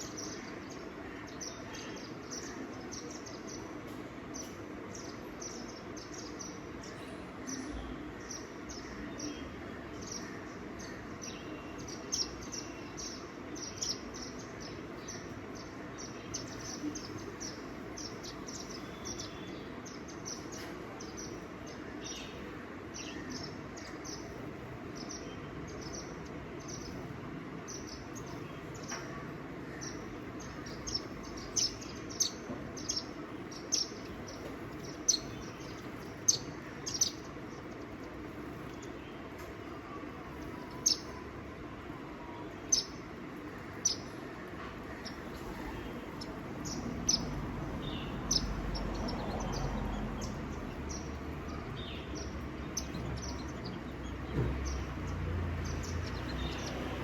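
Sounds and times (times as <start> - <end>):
outdoor background hiss: 0.0 - 57.0
small birds chirping: 0.0 - 57.0.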